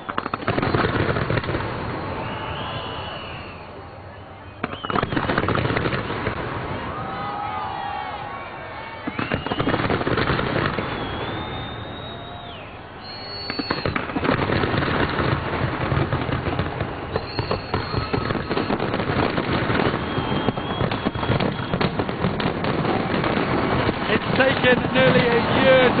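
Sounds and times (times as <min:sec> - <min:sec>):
fireworks whistles: 0:00.0 - 0:08.0, 0:09.0 - 0:26.0
fireworks bangs and crackling: 0:00.0 - 0:26.0.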